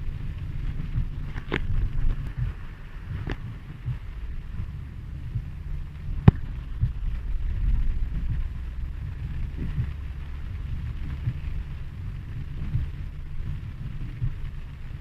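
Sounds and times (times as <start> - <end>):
rain falling: 0.0 - 15.0
wind buffeting microphone: 0.0 - 15.0.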